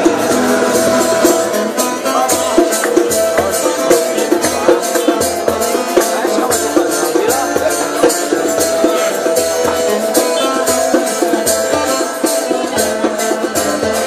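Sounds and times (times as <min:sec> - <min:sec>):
acoustic guitar music: 0:00.0 - 0:14.0
shaker rattling on a beat: 0:00.0 - 0:14.0.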